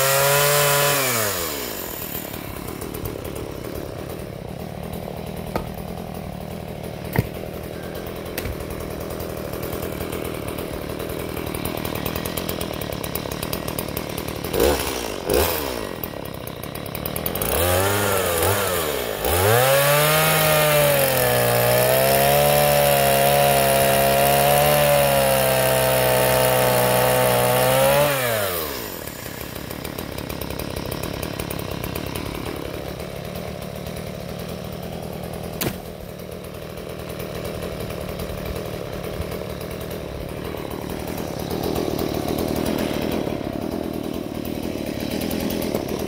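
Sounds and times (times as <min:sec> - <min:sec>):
chainsaw cutting log: 0:00.0 - 0:46.0.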